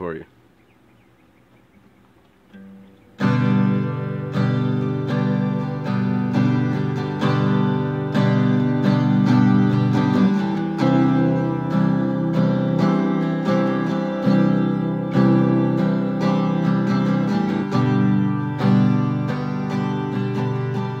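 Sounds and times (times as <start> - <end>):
acoustic guitar strumming: 1.6 - 21.0.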